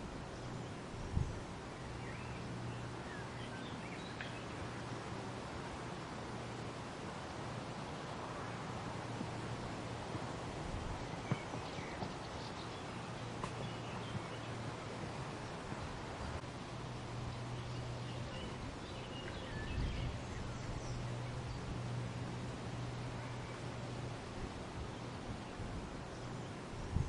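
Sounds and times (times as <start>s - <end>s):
breeze rustling leaves: 0.0s - 27.0s
low steady hum: 0.0s - 27.0s.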